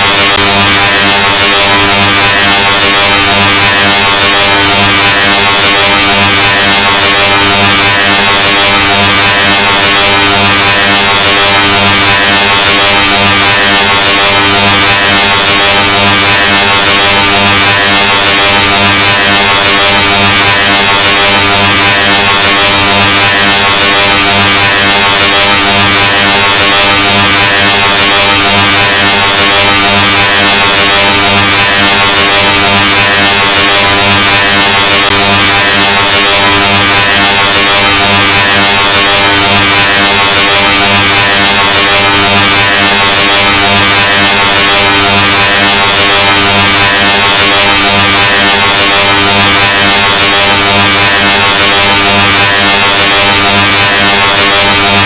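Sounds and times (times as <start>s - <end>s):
distorted buzzing drone: 0.0s - 55.0s.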